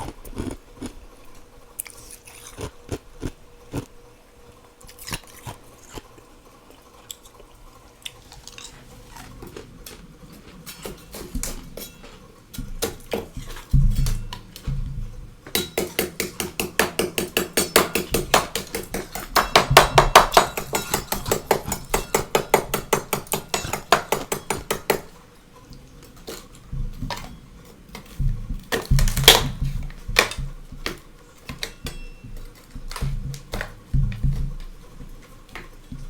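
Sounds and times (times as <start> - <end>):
freezer frost crunching: 0.0 - 4.0, 4.8 - 15.4, 18.0 - 36.0.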